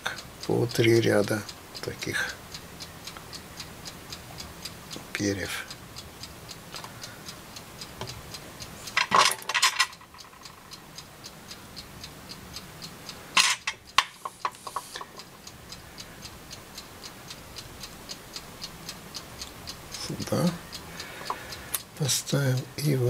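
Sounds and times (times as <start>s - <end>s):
clock ticking: 0.0s - 23.0s.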